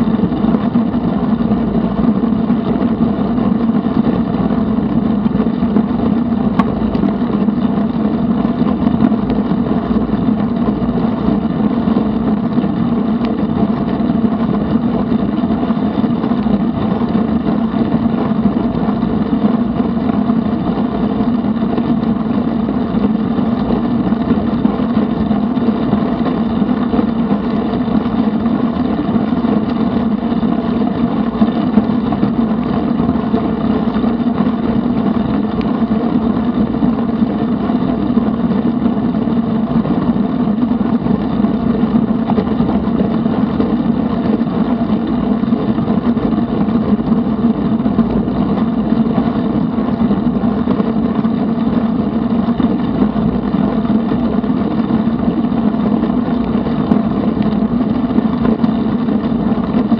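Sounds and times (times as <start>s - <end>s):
bicycle tyres on asphalt: 0.0s - 59.9s.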